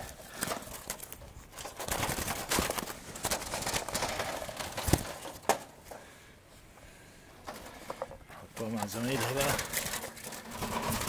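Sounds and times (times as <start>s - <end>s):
rustling and clicks of trap: 0.0s - 5.8s, 7.4s - 11.0s.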